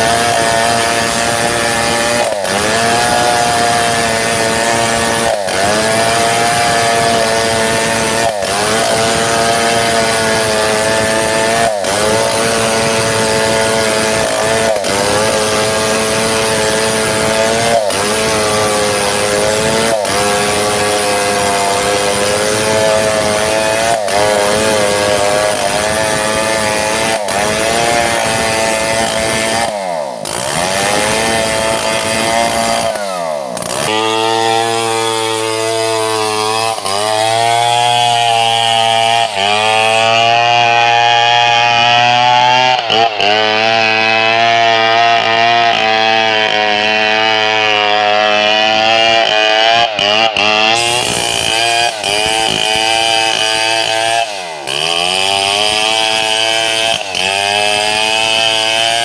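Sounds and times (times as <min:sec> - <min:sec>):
chainsaw cutting through log: 0:00.0 - 0:59.0.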